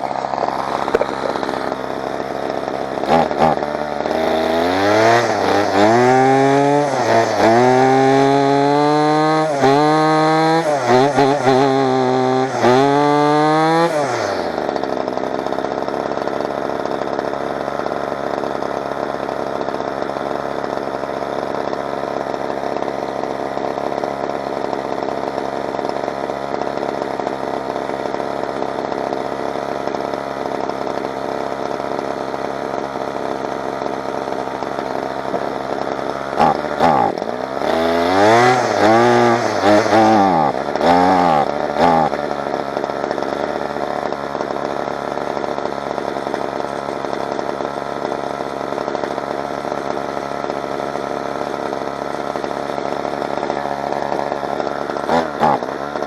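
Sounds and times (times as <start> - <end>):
string trimmer engine revving: 0.0 - 56.0.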